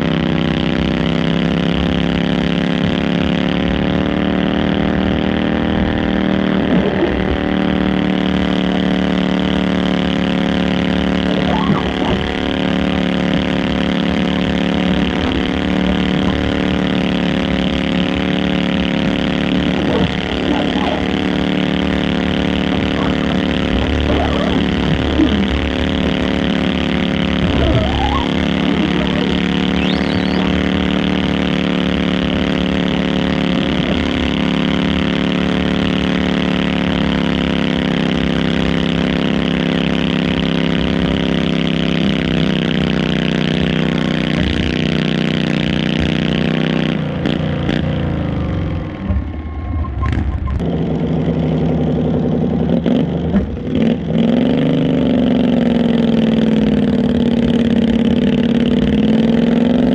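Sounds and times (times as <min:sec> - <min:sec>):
second garden tractor engine: 0:00.0 - 0:59.9
garden tractor engine under load: 0:05.4 - 0:59.9.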